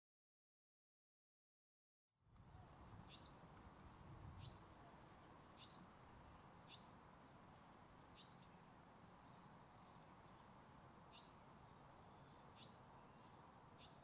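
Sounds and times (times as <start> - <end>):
bird chirping faintly: 2.2 - 14.0
faint outdoor hiss: 2.2 - 14.0.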